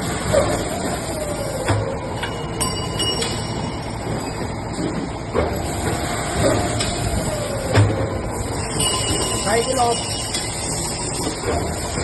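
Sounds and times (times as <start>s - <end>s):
machine mechanical din: 0.0s - 12.0s
machine whine sliding down: 0.3s - 5.0s, 5.6s - 12.0s.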